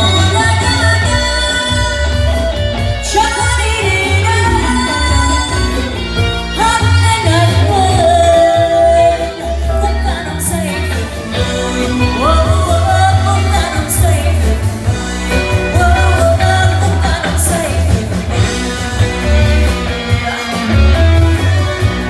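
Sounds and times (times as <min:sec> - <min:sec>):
bass line: 0:00.0 - 0:22.0
guitar: 0:00.0 - 0:22.0.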